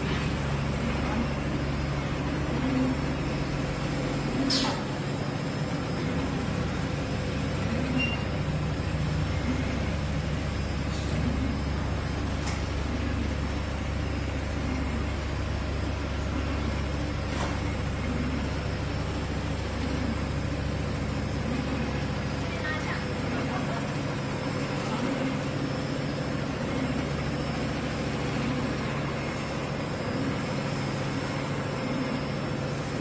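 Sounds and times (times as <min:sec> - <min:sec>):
quilting machine humming: 0:00.0 - 0:33.0.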